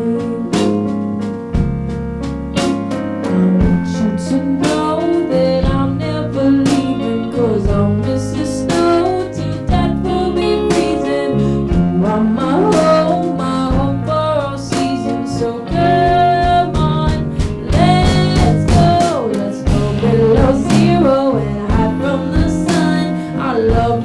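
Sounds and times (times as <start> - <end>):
bass line: 0.0 - 24.0
jazz combo playing: 0.0 - 24.0.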